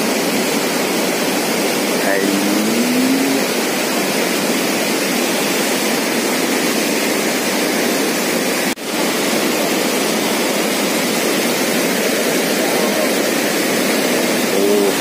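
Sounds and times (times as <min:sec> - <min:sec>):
floodwater rushing through dam gate: 0:00.0 - 0:15.0.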